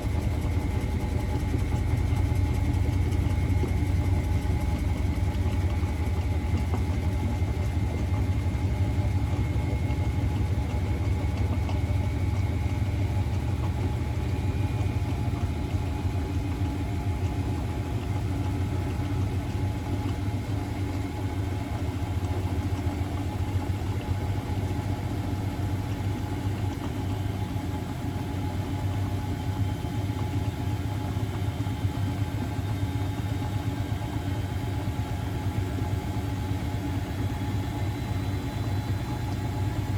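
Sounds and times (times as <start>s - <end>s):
washing machine hum and rumble: 0.0s - 39.9s.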